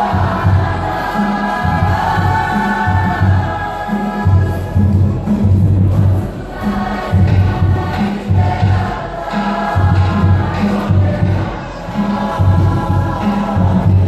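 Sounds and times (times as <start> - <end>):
group singing in chorus: 0.0 - 14.0
heavy low beat: 0.0 - 14.0.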